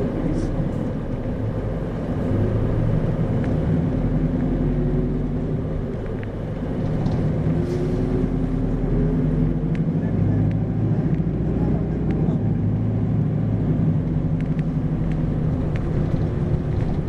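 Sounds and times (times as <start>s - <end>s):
bus diesel engine hum: 0.0s - 17.0s
road rumble: 0.0s - 17.0s.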